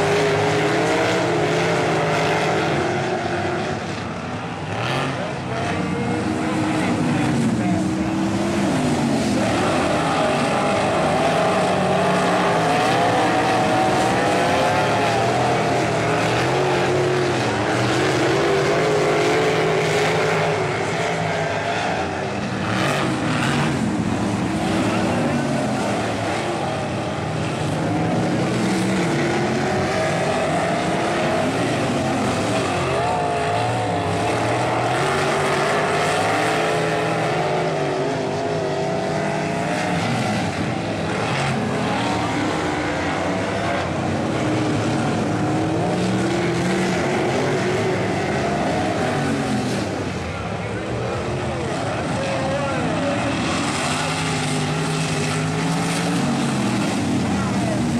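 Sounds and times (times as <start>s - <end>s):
race car engines passing by: 0.0s - 57.9s.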